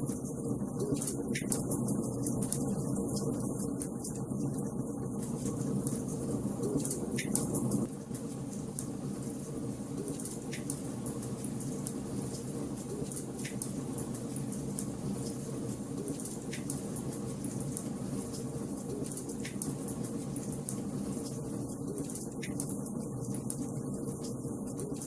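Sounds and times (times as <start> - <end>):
wood fire crackling: 0.4 - 25.0.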